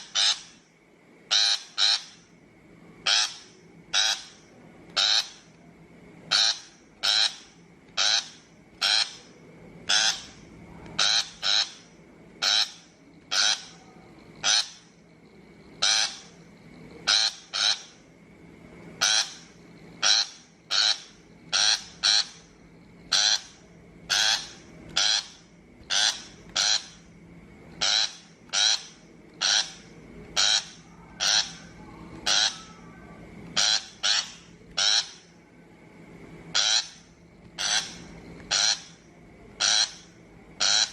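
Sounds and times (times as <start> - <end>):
shrike harsh calls: 0.0 - 0.7, 1.3 - 2.4, 3.0 - 5.5, 6.2 - 15.0, 15.8 - 18.0, 19.0 - 27.1, 27.7 - 35.3, 36.5 - 40.9.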